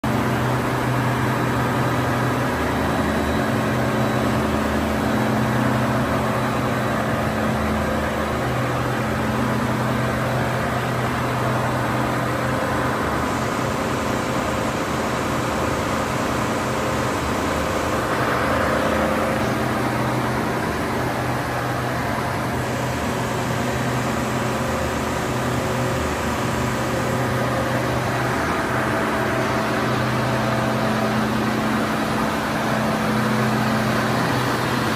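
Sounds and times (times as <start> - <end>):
low machine tones: 0.1 - 34.9
machine motors humming and whirring: 0.1 - 34.9.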